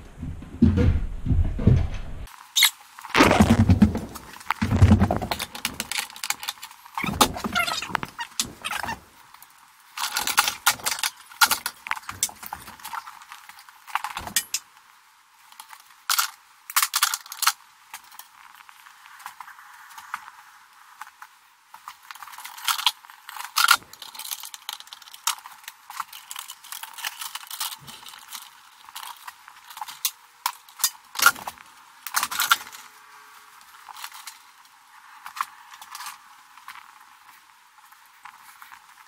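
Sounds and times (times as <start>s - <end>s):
cables rustling and scraping: 0.0s - 39.0s.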